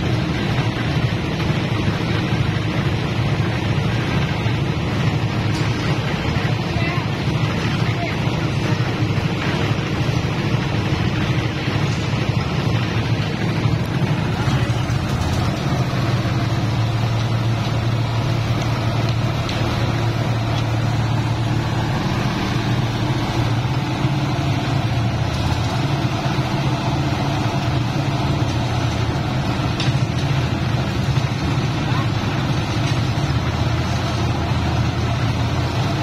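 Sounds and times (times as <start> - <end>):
concrete mixer engine running: 0.0 - 36.0.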